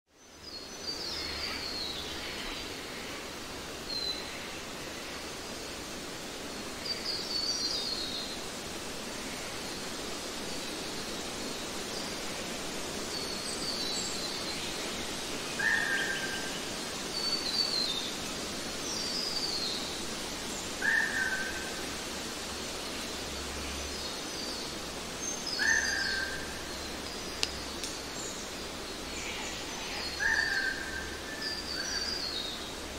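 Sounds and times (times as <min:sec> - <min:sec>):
background hiss: 0:00.1 - 0:32.9.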